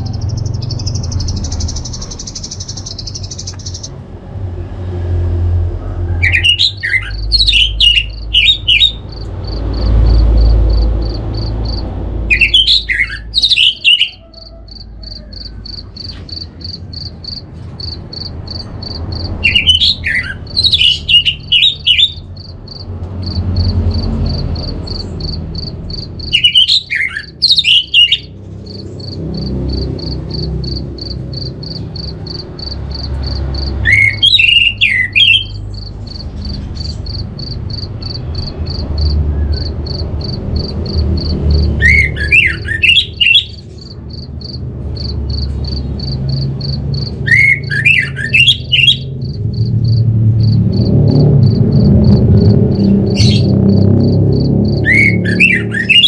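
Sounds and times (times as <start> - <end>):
high chirping pulse: 0.0 - 4.0, 6.3 - 56.0
thrush singing whistled notes: 6.2 - 50.6, 51.4 - 56.0.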